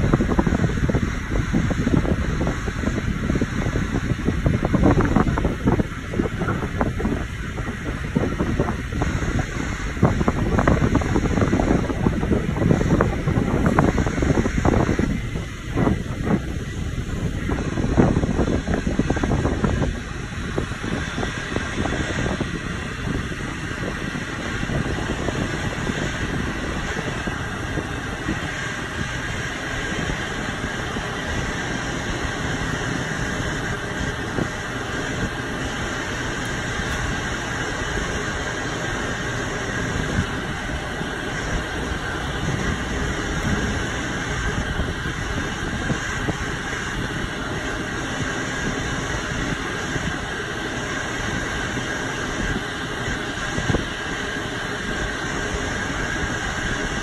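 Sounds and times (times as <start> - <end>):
faint high whine: 0.0 - 57.0
ramp machinery rumbling: 0.0 - 57.0.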